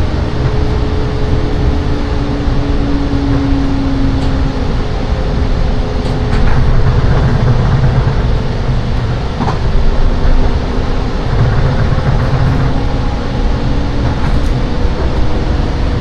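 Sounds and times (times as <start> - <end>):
train interior rumble: 0.0 - 16.0
wheels clicking over rail joints: 0.0 - 16.0.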